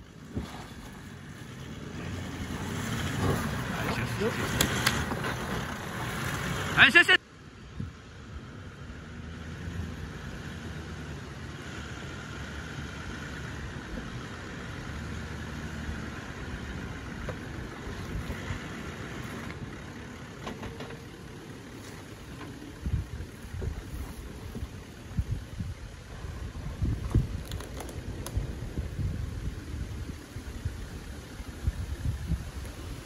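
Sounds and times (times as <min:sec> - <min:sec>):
vehicle engine at low revs: 0:00.0 - 0:33.0.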